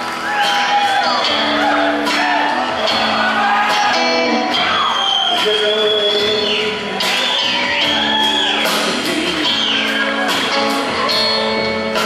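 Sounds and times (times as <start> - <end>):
live band playing slow song: 0.0 - 12.0.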